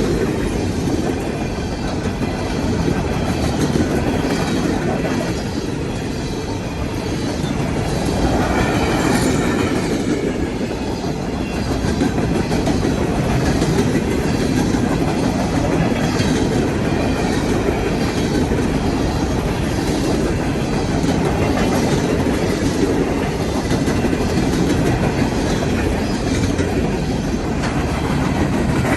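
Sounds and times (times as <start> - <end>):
train cars rolling on rails: 0.0 - 28.9.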